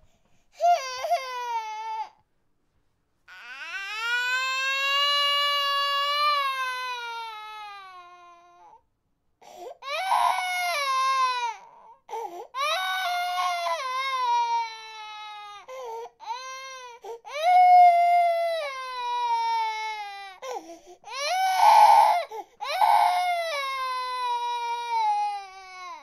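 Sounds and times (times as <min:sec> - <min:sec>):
infant crying: 0:00.6 - 0:02.2, 0:03.3 - 0:08.8, 0:09.4 - 0:26.0.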